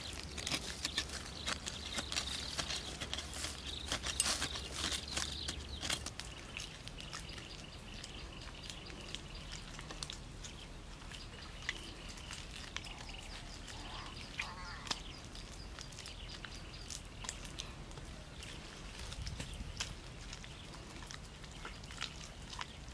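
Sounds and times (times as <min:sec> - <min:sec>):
hands scraping dry soil: 0:00.0 - 0:22.9
light clicks and crackles: 0:00.0 - 0:22.9.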